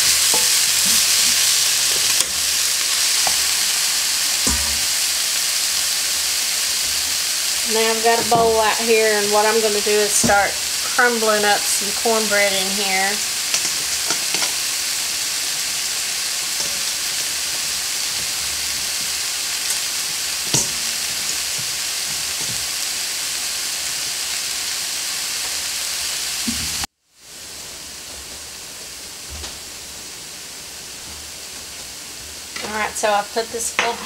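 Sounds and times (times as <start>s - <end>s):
vegetables sizzling in a skillet: 0.0s - 34.0s.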